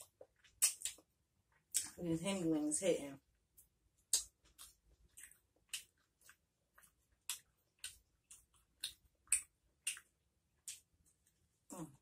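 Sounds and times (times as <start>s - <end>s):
person chewing with wet smacks: 0.0s - 2.0s, 3.5s - 12.0s.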